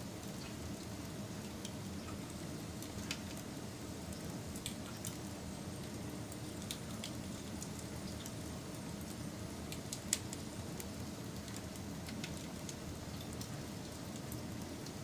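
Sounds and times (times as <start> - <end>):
burning wood crackling and popping: 0.2 - 15.0.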